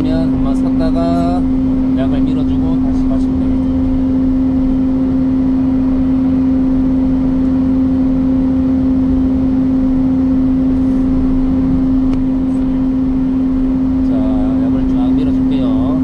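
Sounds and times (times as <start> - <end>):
mist-blower sprayer droning: 0.0 - 16.0.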